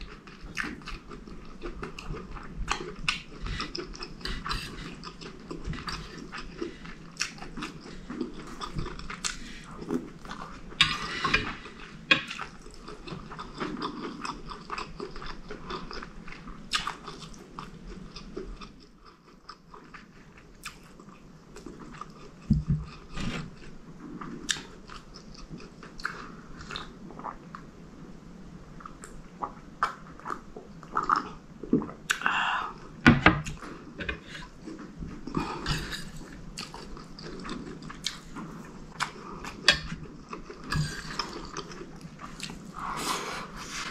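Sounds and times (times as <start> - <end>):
chewing and biting food: 0.0 - 27.4, 33.4 - 43.0.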